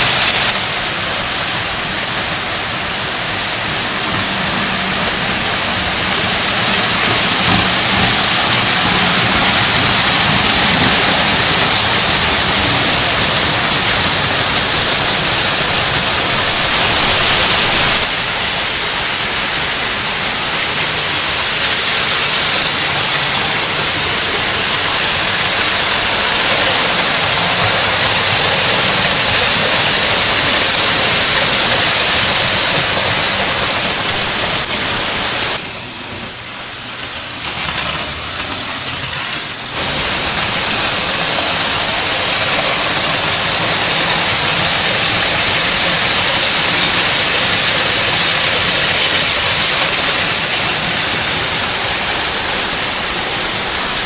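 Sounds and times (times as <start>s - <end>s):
toy trains rolling on metal track: 0.0s - 54.0s.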